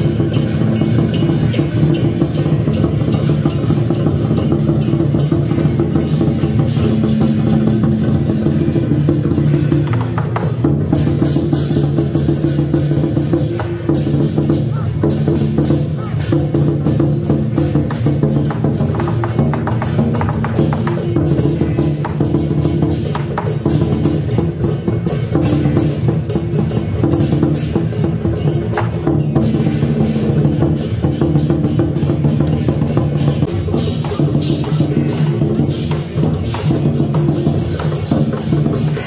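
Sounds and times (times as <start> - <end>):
drums: 0.0 - 39.0
rapid percussion strikes: 0.0 - 39.0
woodblock clacks: 0.0 - 39.0.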